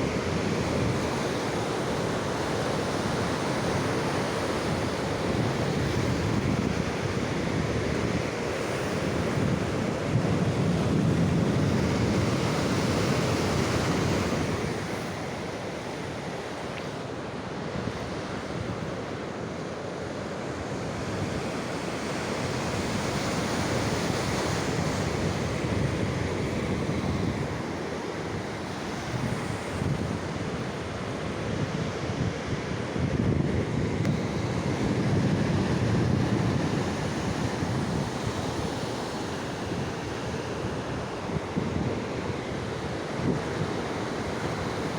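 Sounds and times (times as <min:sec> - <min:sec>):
wind buffeting microphone: 0:00.0 - 0:15.5, 0:22.4 - 0:44.9
sea surf washing onto shore: 0:00.0 - 0:44.9.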